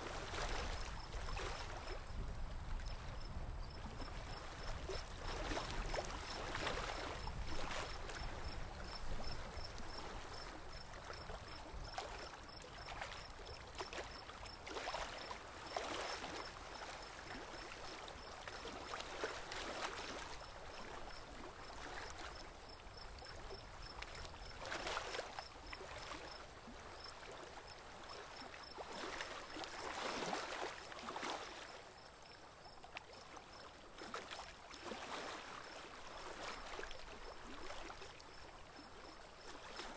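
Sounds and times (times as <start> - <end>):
water splashing against a boat: 0.0 - 39.9.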